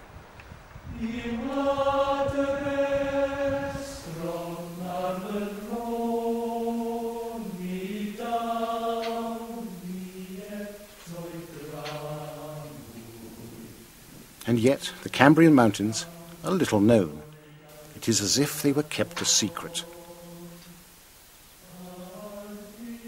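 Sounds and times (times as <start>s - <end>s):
person singing chant-like melody: 0.9s - 20.9s, 21.6s - 23.0s.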